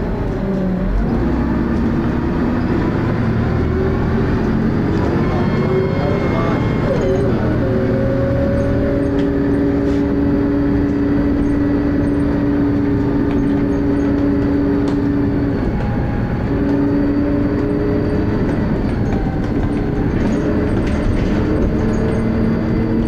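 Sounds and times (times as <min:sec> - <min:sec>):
bus engine rumble: 0:00.0 - 0:23.0
droning whine: 0:01.8 - 0:23.0.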